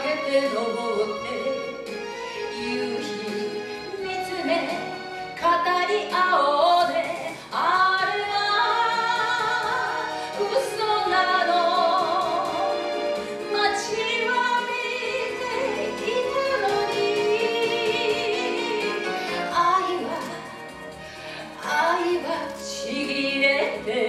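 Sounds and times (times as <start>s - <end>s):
woman singing with vibrato: 0.0s - 1.8s, 2.4s - 20.8s, 21.5s - 24.0s
orchestral backing track: 0.0s - 24.0s.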